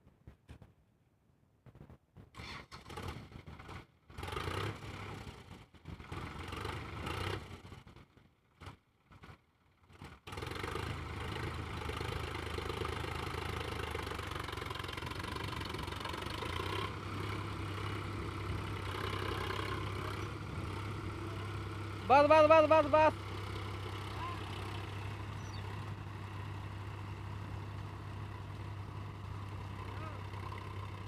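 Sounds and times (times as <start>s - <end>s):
tractor diesel engine running: 2.4s - 31.0s.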